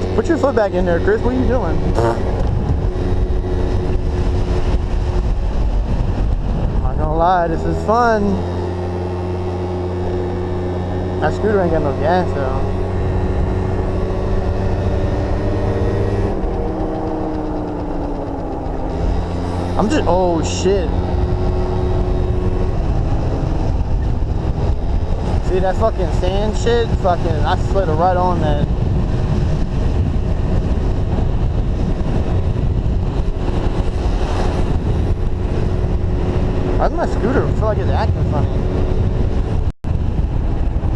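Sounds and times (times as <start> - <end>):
scooter engine running: 0.0 - 7.0, 7.8 - 40.9
wind buffeting microphone: 0.0 - 40.9.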